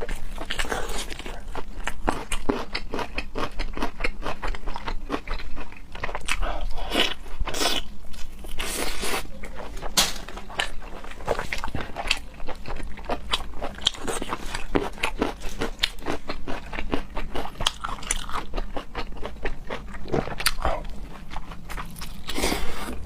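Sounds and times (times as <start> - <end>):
person crunching and chewing food: 0.0 - 23.0
rasping eating sounds: 0.0 - 23.0.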